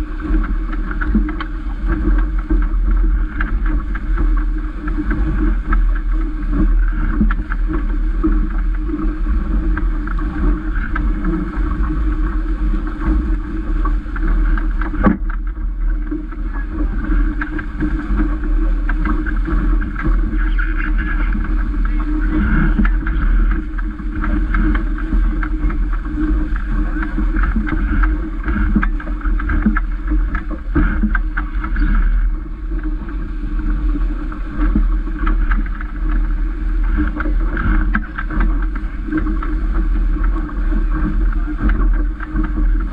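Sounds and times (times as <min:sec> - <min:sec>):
water splashing along hull: 0:00.0 - 0:42.9
wind buffeting microphone: 0:00.0 - 0:42.9.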